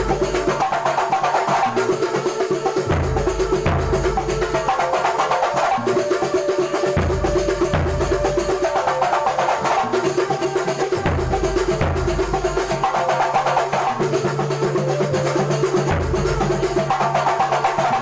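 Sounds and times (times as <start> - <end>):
percussion ensemble playing: 0.0 - 18.0.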